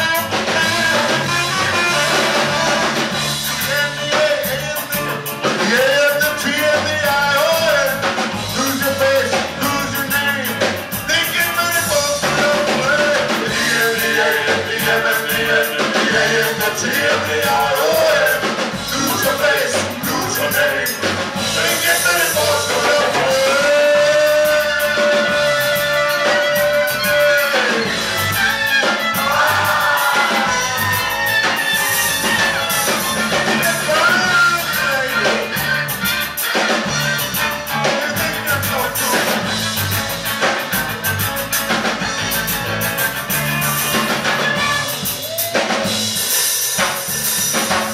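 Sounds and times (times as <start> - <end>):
live band playing: 0.0 - 47.9.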